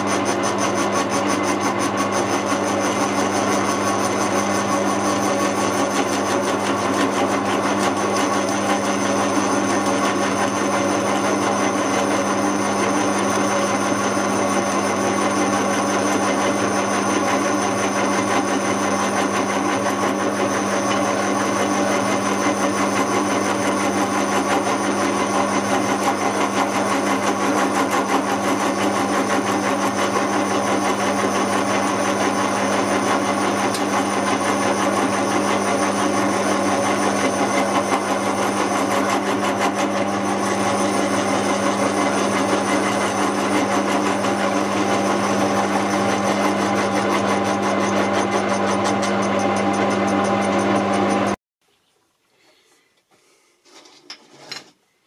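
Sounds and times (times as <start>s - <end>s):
milling machine cutting metal: 0.0s - 51.4s.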